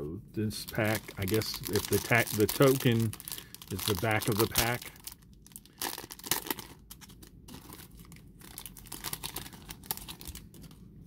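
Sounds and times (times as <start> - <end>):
foil wrapper crinkling and tearing: 0.7 - 10.8.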